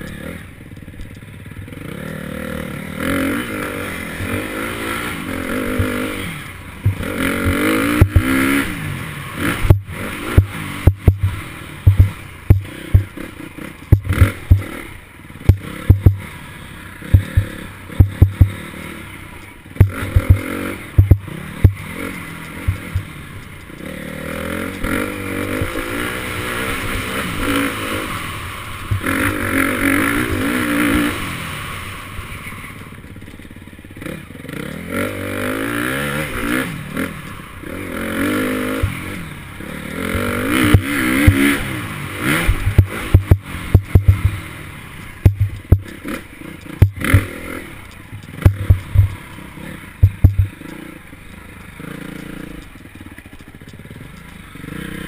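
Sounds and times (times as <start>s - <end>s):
bike knocking and rattling: 0.0s - 2.3s, 3.0s - 16.4s, 17.0s - 31.4s, 33.0s - 55.0s
dirt bike engine revving: 0.0s - 55.0s.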